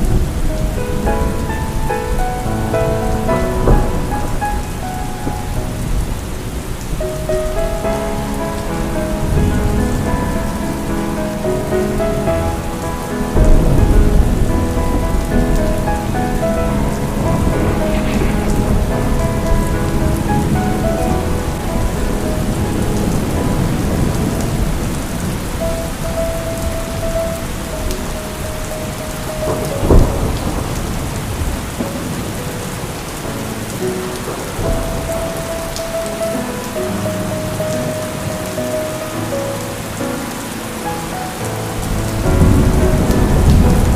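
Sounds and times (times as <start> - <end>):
thunder rumble and clap: 0.0 - 33.5, 34.2 - 38.6, 41.5 - 43.9
soft background music: 0.0 - 43.9
steady rain: 0.0 - 43.9.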